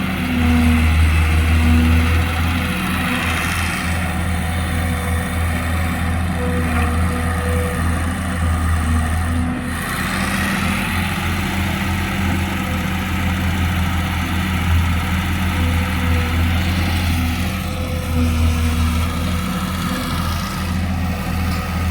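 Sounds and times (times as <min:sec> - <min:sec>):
excavator diesel engine running: 0:00.0 - 0:21.9
harsh working noise: 0:00.0 - 0:21.9.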